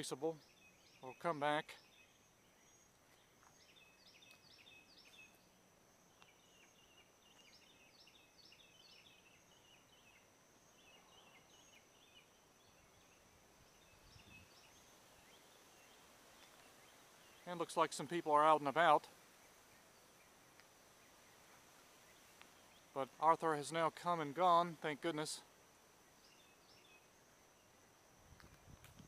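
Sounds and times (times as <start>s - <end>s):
faint songbirds chirping: 0.0s - 29.0s.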